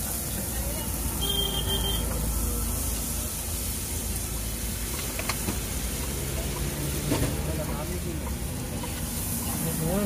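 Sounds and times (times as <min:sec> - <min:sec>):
egg mixture sizzling on griddle: 0:00.0 - 0:10.0.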